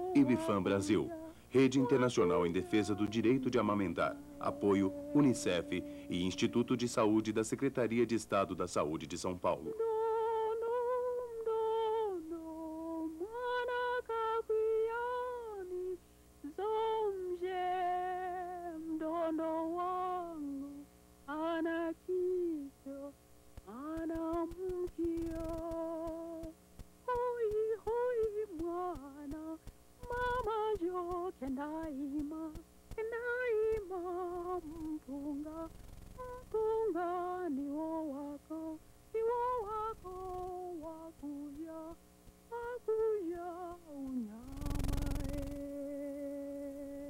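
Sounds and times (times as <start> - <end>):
woman humming a melody: 0.0 - 7.3, 9.7 - 23.1, 23.7 - 47.0.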